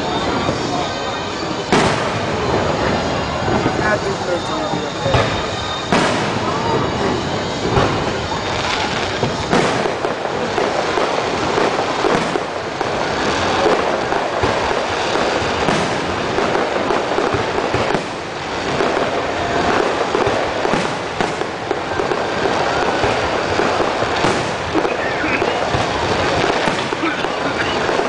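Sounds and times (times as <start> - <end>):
fireworks booming and crackling: 0.0 - 28.0
fireworks sharp bangs: 0.0 - 28.0.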